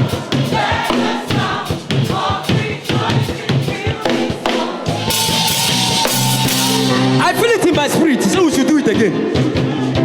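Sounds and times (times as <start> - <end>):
choir singing gospel music: 0.0 - 10.0.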